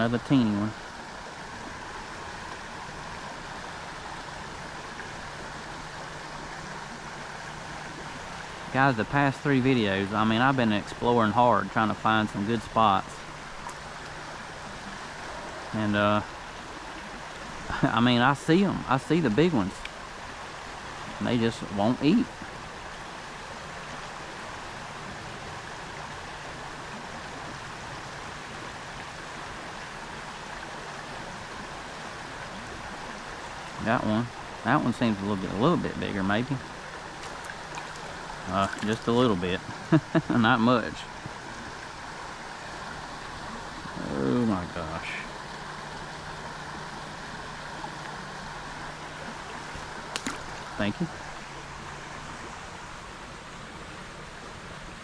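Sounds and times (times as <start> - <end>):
creek water rippling and splashing: 0.0 - 55.0.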